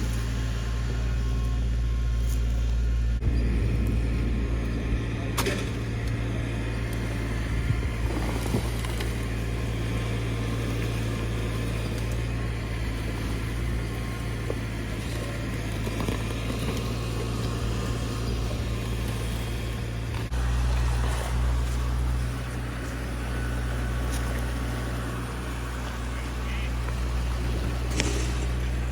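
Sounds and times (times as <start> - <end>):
motor engine running: 0.0 - 28.9.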